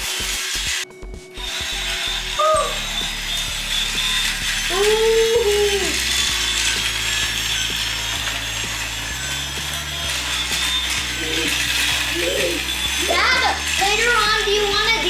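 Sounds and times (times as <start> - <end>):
toy train motor rattling whir: 0.0 - 15.0.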